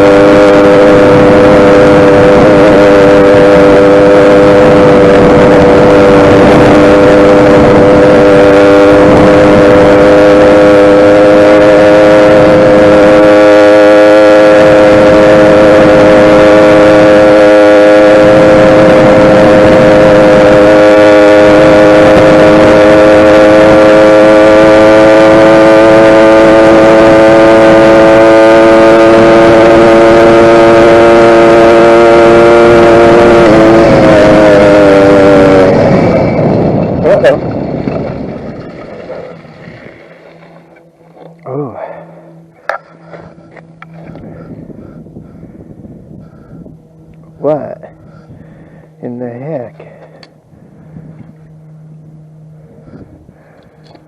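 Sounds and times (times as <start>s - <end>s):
two-stroke engine high revs: 0.0s - 54.0s.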